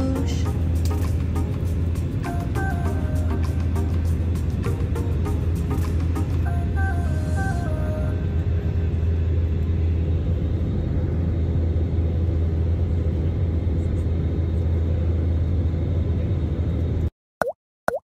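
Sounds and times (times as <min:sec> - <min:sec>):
jet airliner cabin noise: 0:00.0 - 0:17.1.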